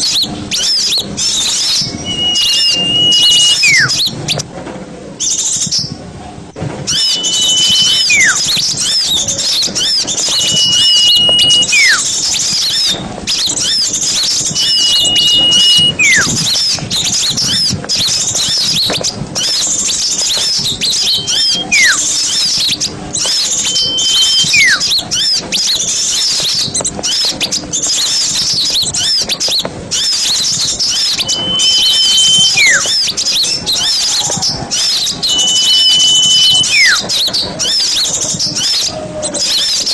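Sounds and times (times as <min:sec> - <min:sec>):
bird whistle: 0:00.0 - 0:04.4, 0:06.8 - 0:39.9
flock of small birds chattering: 0:00.0 - 0:04.5, 0:05.2 - 0:06.0, 0:06.8 - 0:39.9.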